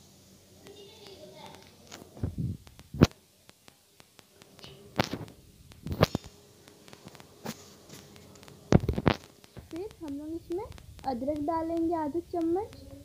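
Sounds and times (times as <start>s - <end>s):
tomatoes frying in oil: 0.0s - 13.0s.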